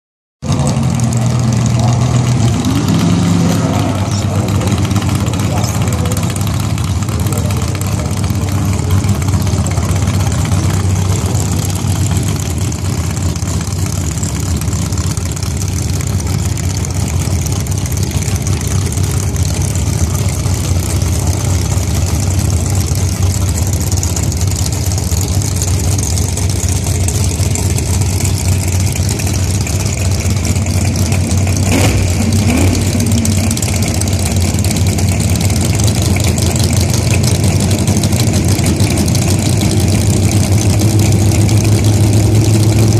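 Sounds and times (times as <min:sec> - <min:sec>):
dragster engines idling: 0:00.4 - 0:42.9.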